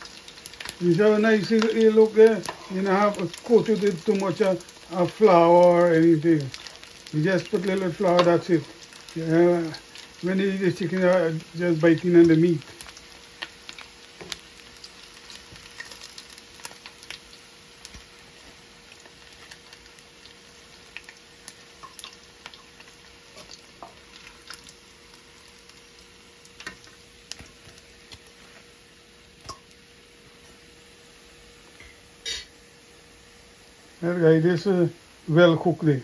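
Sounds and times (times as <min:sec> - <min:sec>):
oil popping and crackling: 0:00.0 - 0:29.8
chicken frying in oil: 0:00.0 - 0:32.5.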